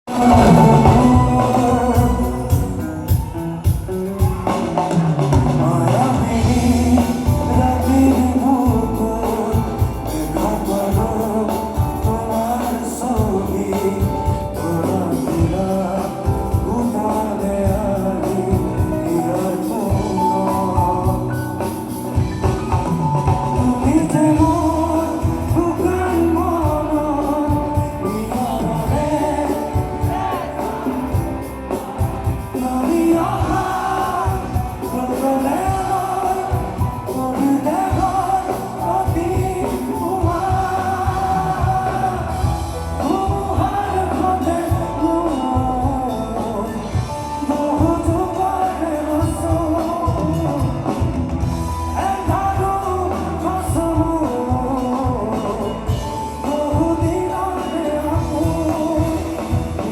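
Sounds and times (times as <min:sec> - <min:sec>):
live band playing: 0:00.0 - 0:59.9
person singing lead vocal: 0:00.0 - 0:59.9.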